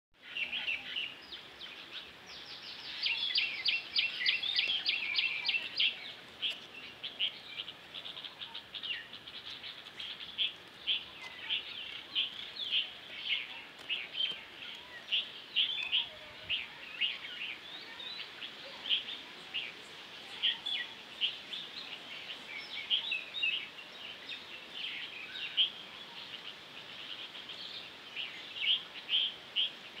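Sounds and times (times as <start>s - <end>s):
small birds chirping: 0.2s - 30.0s.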